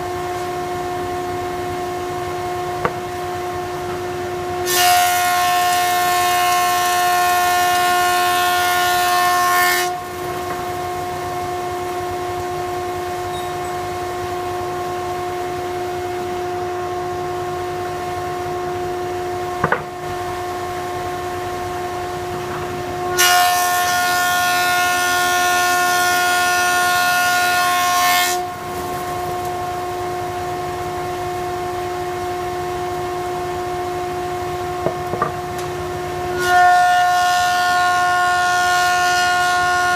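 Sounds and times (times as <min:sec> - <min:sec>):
thickness planer whine: 0:00.0 - 0:39.9.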